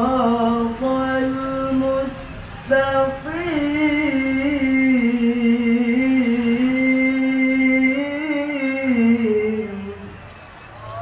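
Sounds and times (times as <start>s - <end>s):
man reciting melodically: 0.0s - 10.2s.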